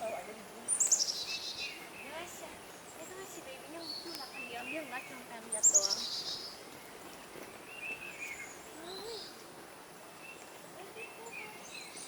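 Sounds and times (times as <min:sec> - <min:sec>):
birds chirping and trilling: 0:00.0 - 0:09.4, 0:10.1 - 0:12.0
faint forest ambience hiss: 0:00.0 - 0:12.0.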